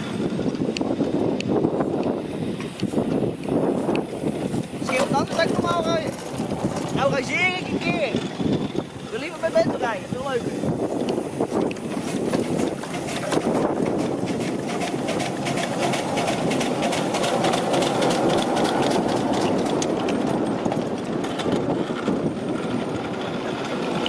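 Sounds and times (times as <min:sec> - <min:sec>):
wheels rumbling on rails: 0:00.0 - 0:24.0
steam locomotive chuffing: 0:02.2 - 0:24.0.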